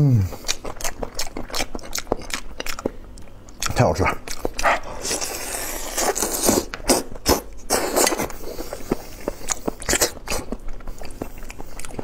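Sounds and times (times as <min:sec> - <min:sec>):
biting and chewing meat: 0:00.3 - 0:12.0.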